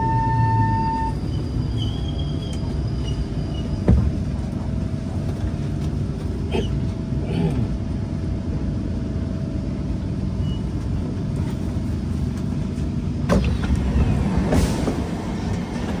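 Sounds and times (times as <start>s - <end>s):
low rumble inside metro train: 0.0s - 16.0s.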